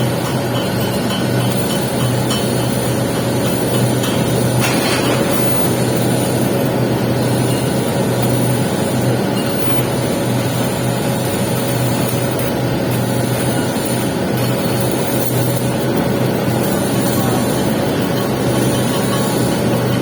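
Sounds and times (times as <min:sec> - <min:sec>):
low machine hum: 0:00.0 - 0:20.0
welding arc hissing and crackling: 0:00.0 - 0:20.0.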